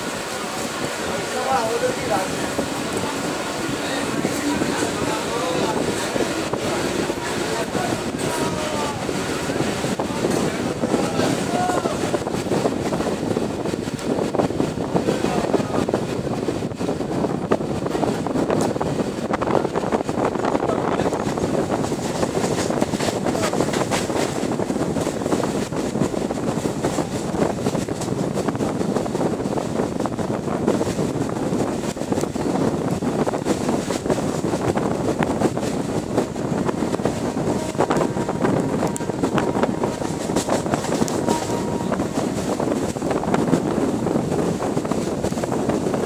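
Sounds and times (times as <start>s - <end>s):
train wheels rumbling and clattering: 0.0s - 46.0s
wind buffeting microphone: 0.0s - 46.0s.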